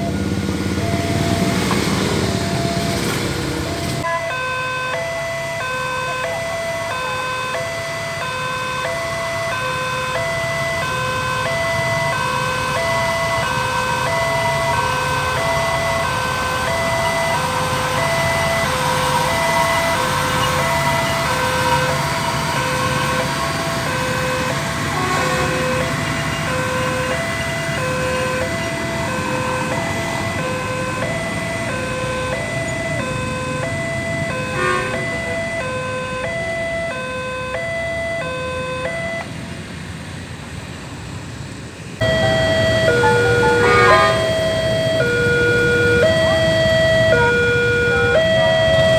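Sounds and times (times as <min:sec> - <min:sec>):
level crossing two-tone alarm: 0:00.0 - 0:39.3, 0:42.0 - 0:48.9.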